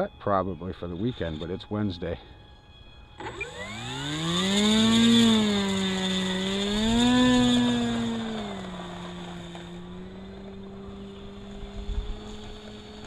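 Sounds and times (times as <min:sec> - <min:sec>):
model plane motor whining: 0:02.4 - 0:13.0.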